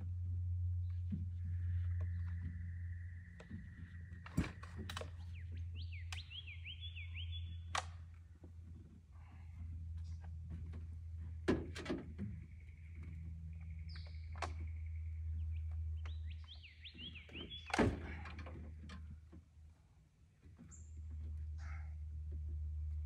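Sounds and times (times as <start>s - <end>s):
tractor engine idling: 0.0s - 23.0s
birds chirping: 0.4s - 23.0s.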